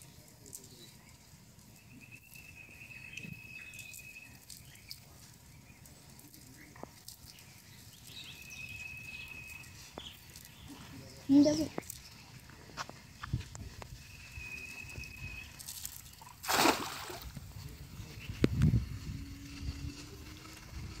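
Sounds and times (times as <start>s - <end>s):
faint outdoor hush: 0.0s - 21.0s.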